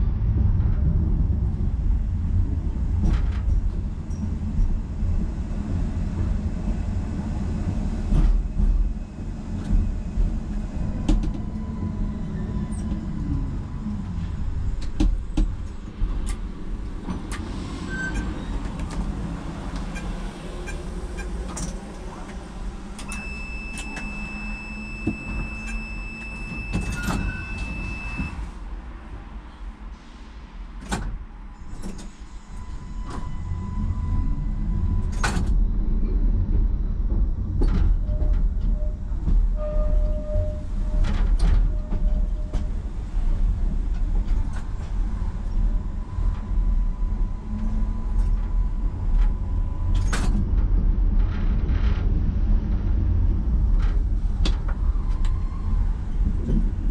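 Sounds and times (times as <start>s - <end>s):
tram running rumble: 0.0s - 56.9s.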